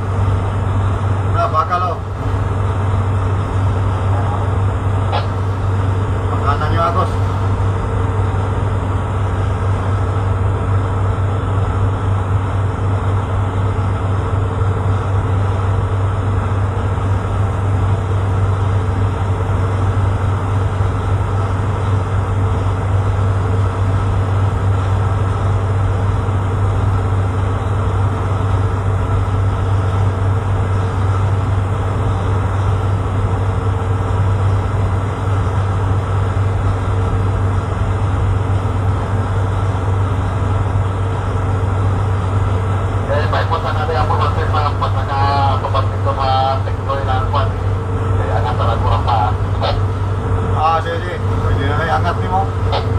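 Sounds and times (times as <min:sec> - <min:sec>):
tugboat engine drone: 0:00.0 - 0:52.9.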